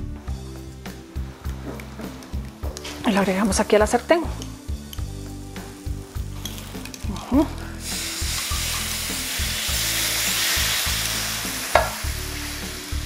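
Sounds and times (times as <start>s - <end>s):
liquid sizzling in hot pan: 0.7s - 13.0s.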